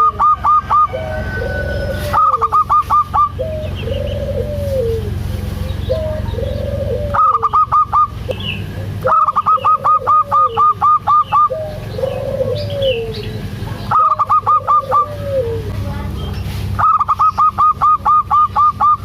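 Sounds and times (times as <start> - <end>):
dove cooing: 0.0 - 16.0, 16.8 - 19.0.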